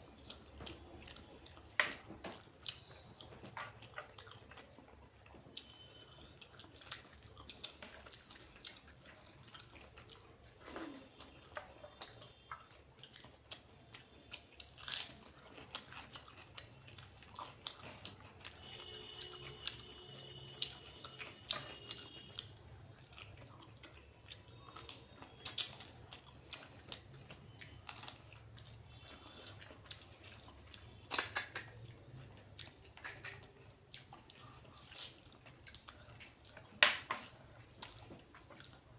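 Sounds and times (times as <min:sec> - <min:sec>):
person chewing with wet mouth sounds: 0:00.0 - 0:38.9.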